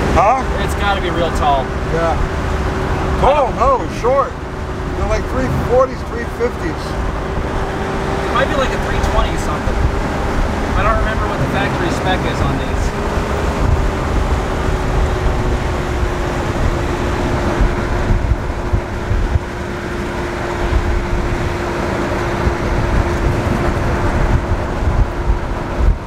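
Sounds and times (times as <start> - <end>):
car engine drone: 0.0 - 26.0
road and wind noise: 0.0 - 26.0.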